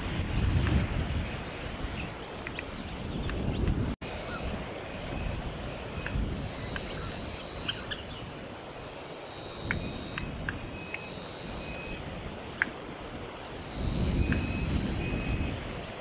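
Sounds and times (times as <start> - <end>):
wind on microphone: 0.0 - 16.0
birds chipping and whistling: 1.9 - 12.9, 13.5 - 15.6.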